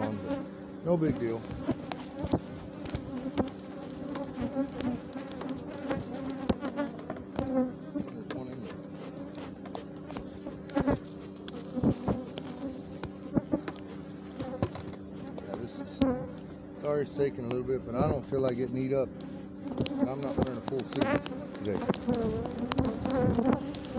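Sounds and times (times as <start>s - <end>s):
bees buzzing: 0.0s - 23.9s.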